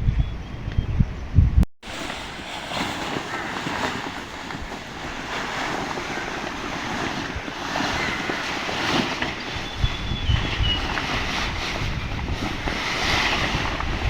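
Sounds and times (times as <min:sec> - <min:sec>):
wind buffeting microphone: 0:00.0 - 0:14.0
wind rushing: 0:00.9 - 0:14.0.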